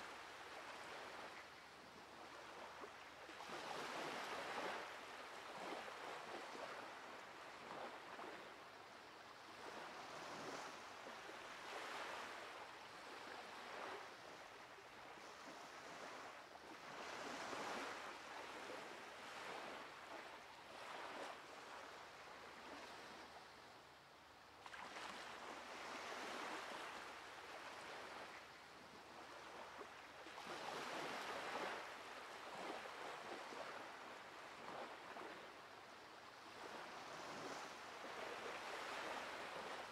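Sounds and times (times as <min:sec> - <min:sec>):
waves breaking on beach: 0:00.0 - 0:23.6, 0:24.6 - 0:39.9.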